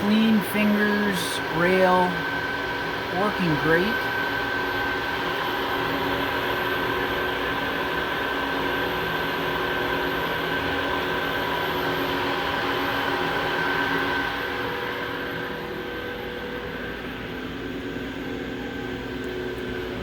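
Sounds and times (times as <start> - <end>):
airy fan noise: 0.0 - 20.0.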